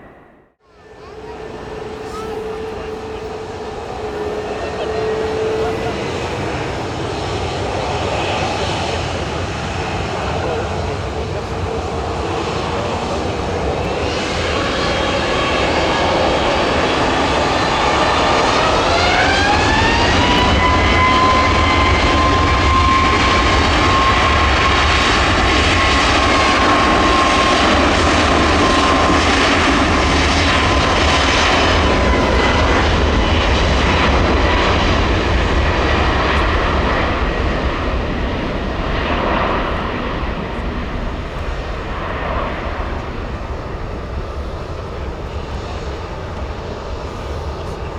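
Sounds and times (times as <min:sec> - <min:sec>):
jet engine whine: 0:00.0 - 0:47.9
loud jet engine noise: 0:00.0 - 0:47.9.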